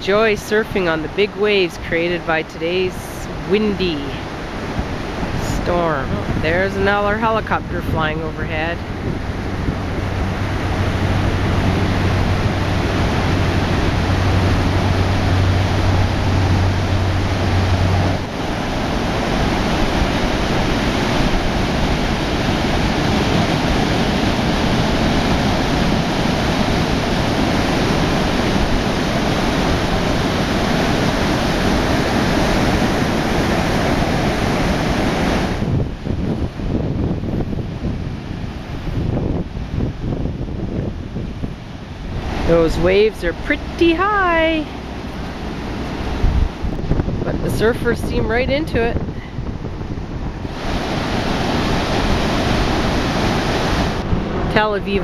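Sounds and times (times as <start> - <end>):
helicopter drone overhead: 0.0 - 55.0
storm surf breaking: 0.0 - 55.0.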